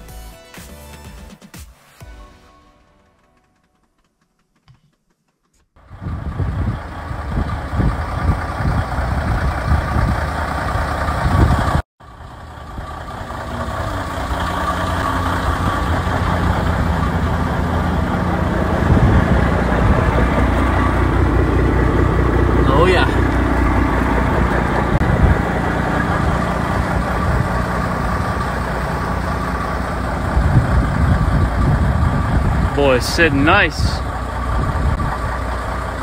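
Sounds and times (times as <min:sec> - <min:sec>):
truck diesel engine rumbling: 0:05.8 - 0:36.0.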